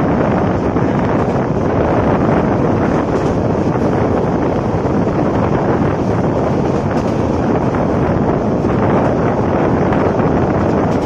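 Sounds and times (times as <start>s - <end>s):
train coaches rumbling on track: 0.0s - 11.0s
wind buffeting microphone: 0.0s - 11.0s.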